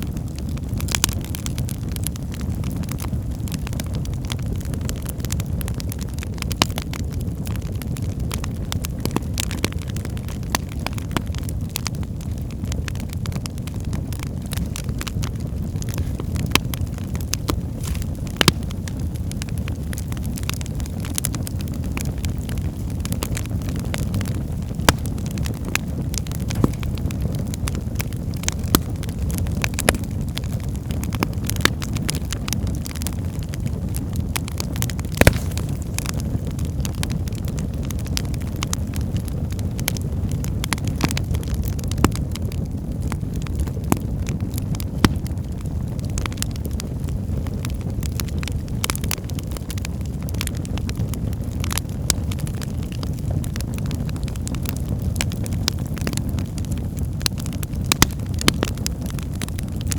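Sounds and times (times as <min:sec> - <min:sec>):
fire crackles and pops: 0:00.0 - 0:59.9
fire flames rumbling: 0:00.0 - 0:59.9.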